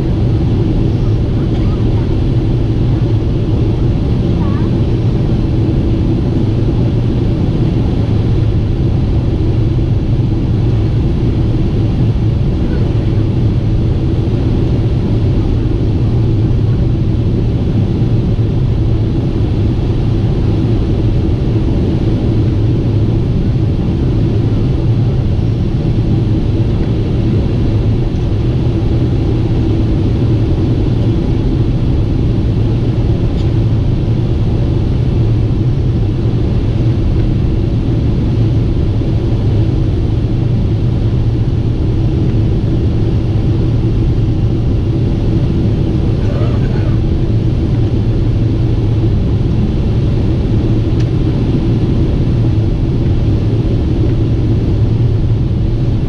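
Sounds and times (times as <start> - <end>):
airliner in-flight drone: 0.0 - 56.0.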